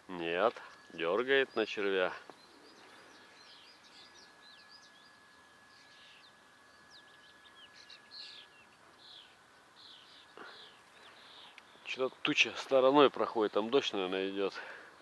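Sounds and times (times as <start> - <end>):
faint steady high tone: 0.0 - 15.0
small birds chirping: 0.2 - 15.0.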